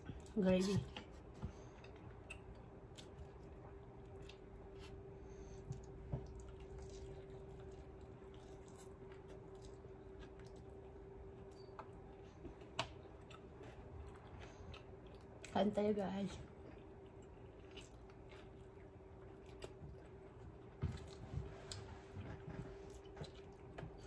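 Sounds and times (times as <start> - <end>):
eating and food handling: 0.0 - 24.0
steady low hum: 0.0 - 24.0.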